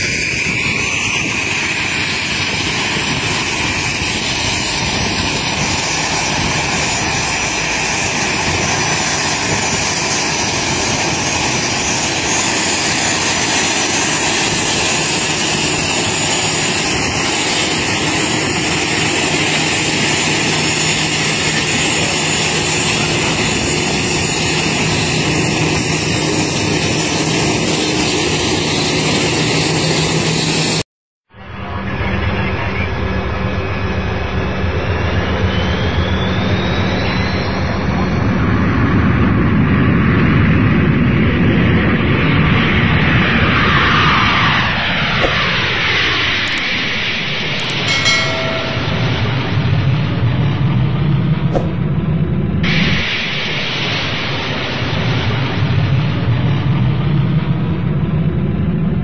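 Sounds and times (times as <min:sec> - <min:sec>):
aircraft engine drone: 0:00.0 - 0:30.8, 0:31.4 - 0:59.0.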